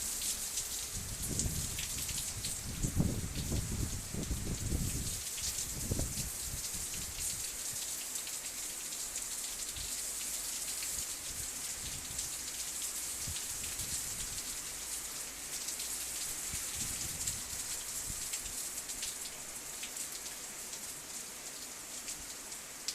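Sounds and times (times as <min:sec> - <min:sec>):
heavy rain and sleet: 0:00.0 - 0:22.9.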